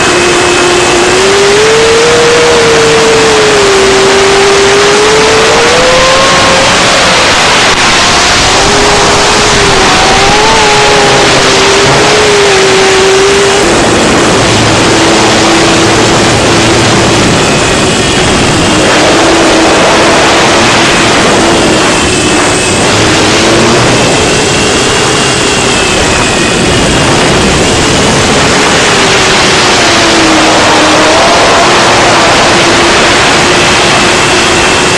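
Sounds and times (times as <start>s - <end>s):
drone motors whining: 0.0s - 34.9s
wind noise: 0.0s - 34.9s.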